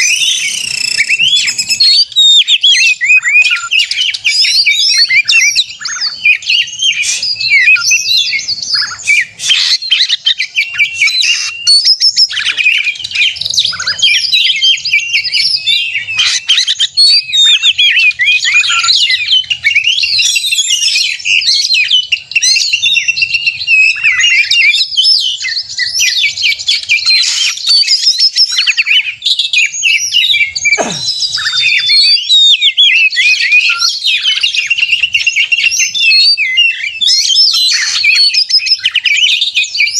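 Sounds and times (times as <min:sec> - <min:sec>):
songbird singing fast whistles: 0:00.0 - 0:39.9.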